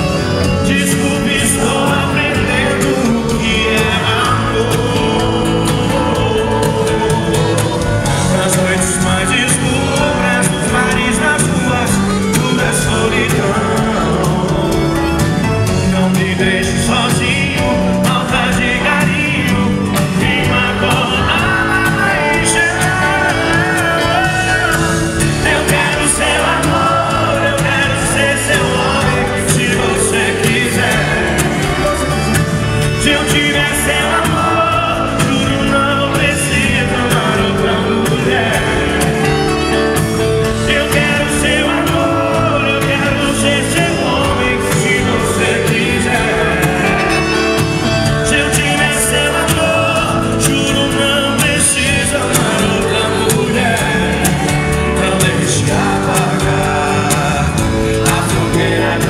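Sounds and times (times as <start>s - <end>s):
live band playing: 0.0s - 59.0s
person singing: 0.0s - 59.0s.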